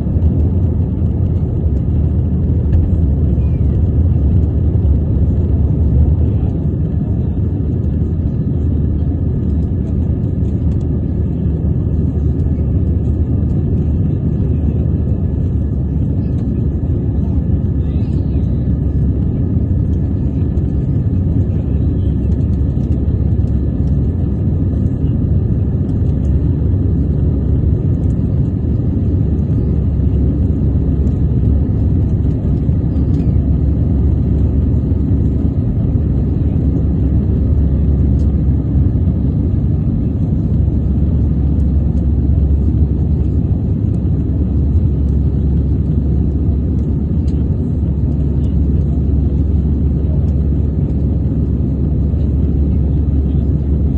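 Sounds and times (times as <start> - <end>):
airliner engines rumbling: 0.0 - 53.9.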